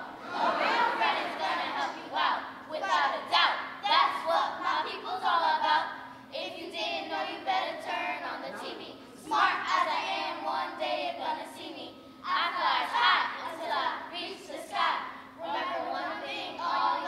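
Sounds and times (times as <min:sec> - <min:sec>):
girls chanting in unison: 0:00.0 - 0:17.0.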